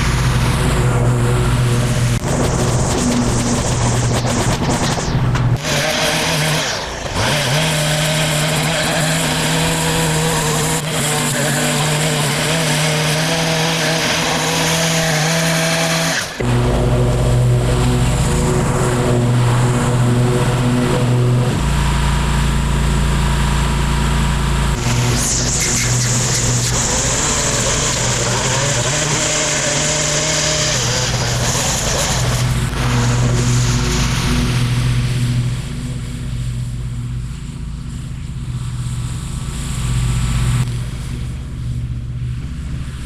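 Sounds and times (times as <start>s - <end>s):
brush-clearing machine engine running: 0.0s - 43.0s.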